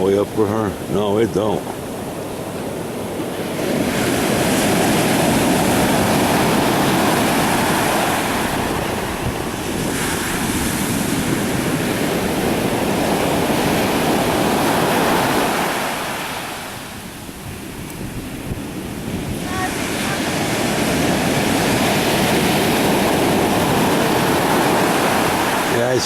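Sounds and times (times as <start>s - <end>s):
surf breaking on sand beach: 0.0s - 26.0s.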